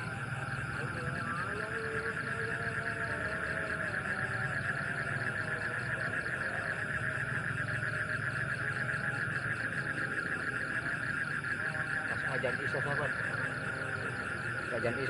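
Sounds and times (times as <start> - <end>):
distant call to prayer: 0.0 - 15.0
frogs chorus: 0.0 - 15.0.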